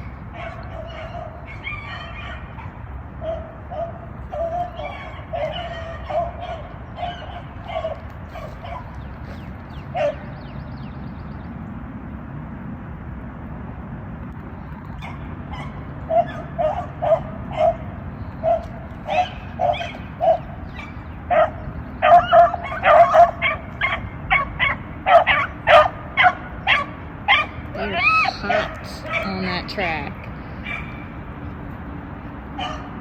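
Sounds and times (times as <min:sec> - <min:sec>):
beagles baying: 0:00.0 - 0:10.5, 0:15.0 - 0:29.5, 0:30.6 - 0:31.7, 0:32.5 - 0:33.0.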